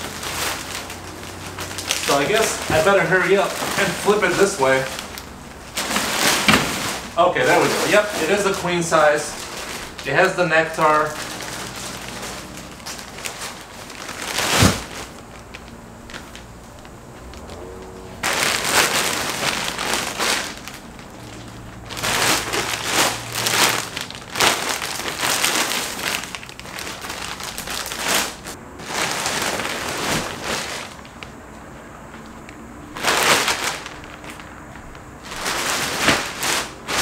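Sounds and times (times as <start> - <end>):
plastic wrapping crinkling: 0.0 - 37.0.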